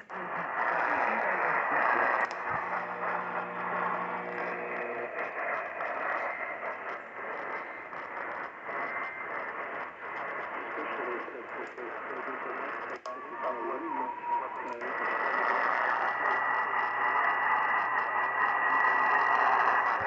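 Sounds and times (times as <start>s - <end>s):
low hum: 0.0s - 20.0s
radio static hiss: 0.0s - 20.0s.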